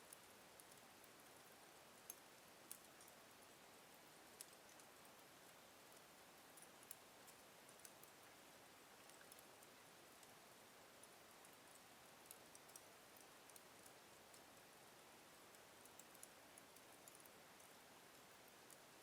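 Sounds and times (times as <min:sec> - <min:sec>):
soft steady fire hiss: 0:00.0 - 0:19.0.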